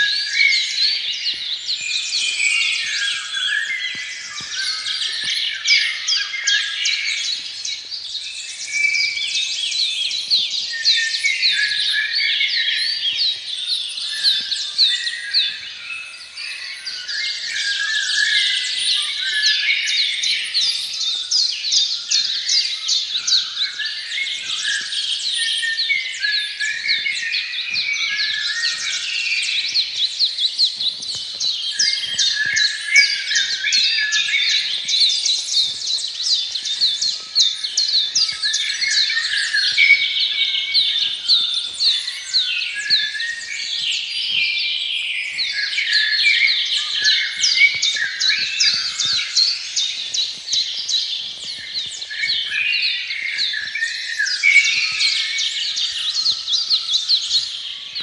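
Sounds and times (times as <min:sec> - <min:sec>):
songbirds chorus: 0:00.0 - 0:58.0.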